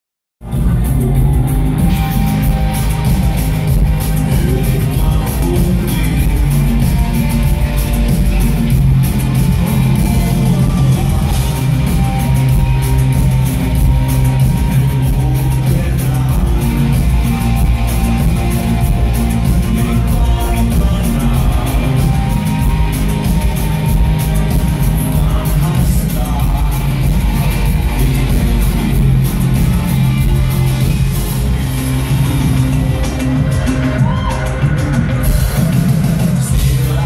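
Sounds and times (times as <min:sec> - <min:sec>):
lead vocal singing: 0:00.4 - 0:32.5, 0:33.1 - 0:37.0
live rock band playing: 0:00.4 - 0:37.0.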